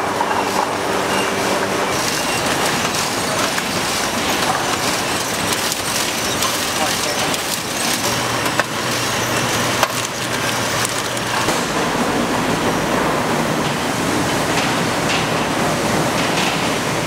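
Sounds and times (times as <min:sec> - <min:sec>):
factory machinery clattering: 0:00.0 - 0:17.0.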